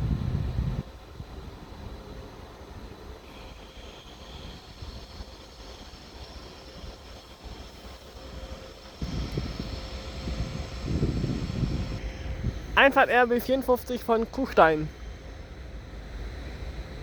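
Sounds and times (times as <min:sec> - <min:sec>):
faint high whine: 0:00.0 - 0:17.0
train rumbling: 0:00.0 - 0:17.0.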